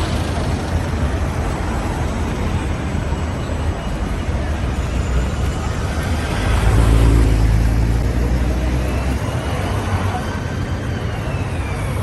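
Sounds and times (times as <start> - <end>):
large vehicle engine rumble: 0.0 - 12.0
traffic noise: 0.0 - 12.0.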